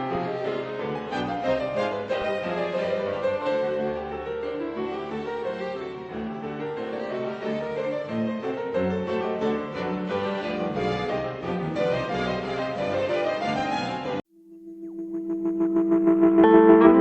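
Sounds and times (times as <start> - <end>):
classical keyboard and strings music: 0.0 - 14.2, 14.9 - 17.0.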